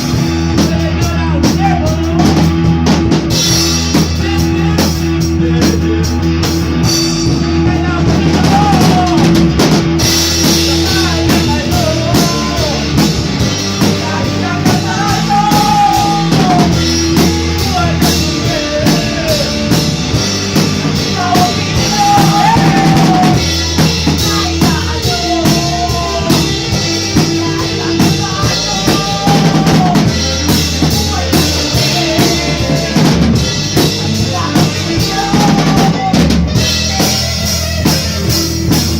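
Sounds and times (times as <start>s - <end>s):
bass notes: 0.0s - 38.9s
drum kit beat: 0.0s - 38.9s.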